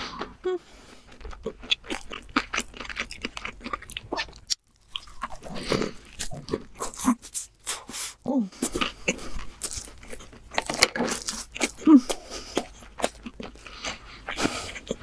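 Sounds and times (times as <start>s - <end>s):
crunching and chewing: 0.0s - 15.0s.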